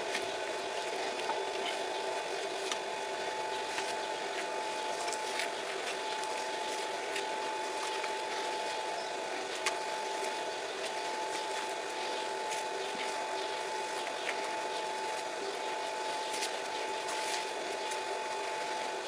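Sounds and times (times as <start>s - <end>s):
mechanical hum with high whine: 0.0s - 19.0s.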